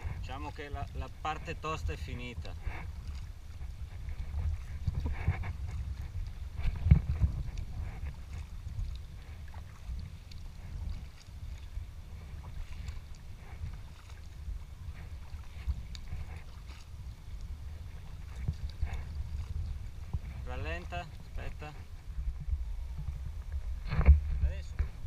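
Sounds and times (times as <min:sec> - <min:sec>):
paddle splashes and water lapping: 0:00.0 - 0:25.0
steady low rumble: 0:00.0 - 0:25.0.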